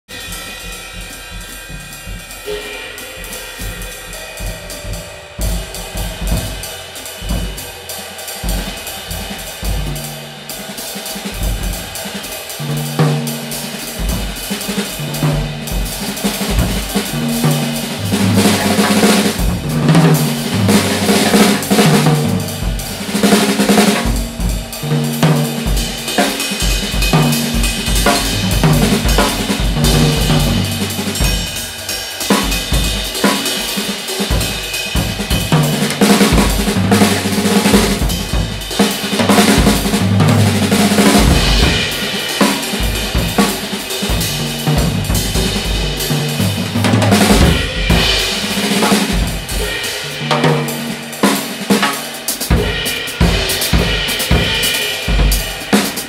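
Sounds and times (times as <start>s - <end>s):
snare drum: 0.1s - 7.8s, 8.4s - 56.0s
bass drum and tom strokes: 0.1s - 51.8s
cymbals ringing: 0.1s - 56.0s.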